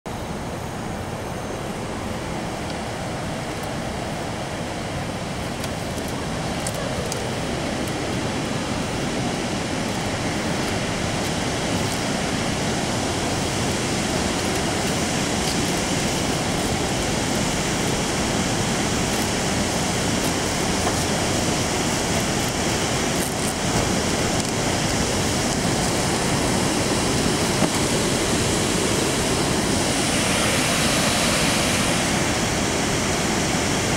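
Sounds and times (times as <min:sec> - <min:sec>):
waterfall rushing: 0:02.0 - 0:33.9.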